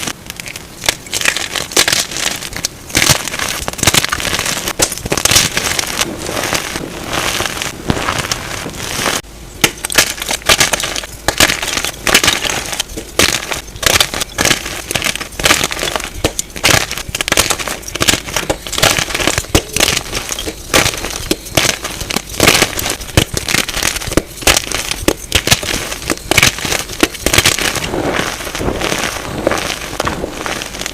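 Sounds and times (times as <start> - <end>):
chalk crunching and crumbling: 0.0 - 30.9.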